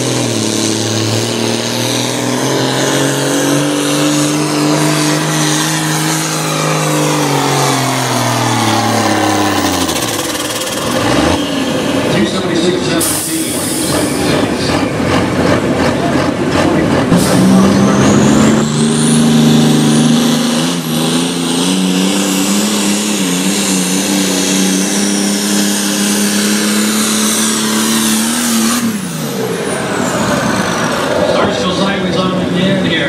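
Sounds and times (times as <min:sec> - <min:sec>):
diesel tractor engines roaring: 0:00.0 - 0:33.0
high turbo whine: 0:00.0 - 0:33.0.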